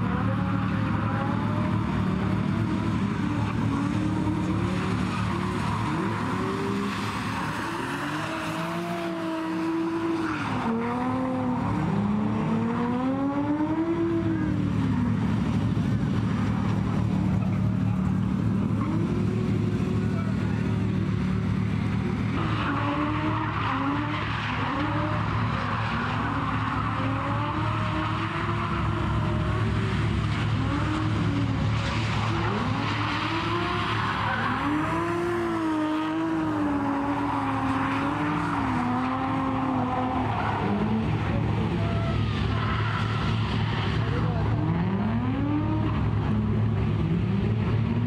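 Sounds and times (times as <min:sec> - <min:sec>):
car engines revving: 0:00.0 - 0:48.0
tyres skidding and squealing: 0:00.0 - 0:48.0.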